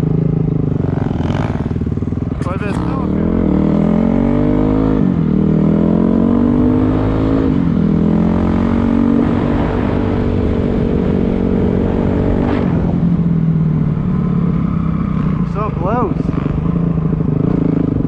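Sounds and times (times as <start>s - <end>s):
dirt bike engine revving: 0.8s - 13.2s, 13.9s - 18.0s.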